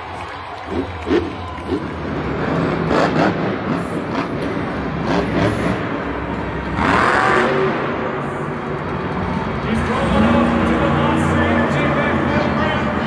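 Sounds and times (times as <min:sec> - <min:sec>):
truck engine revving hard: 0:00.6 - 0:08.3, 0:09.3 - 0:13.0.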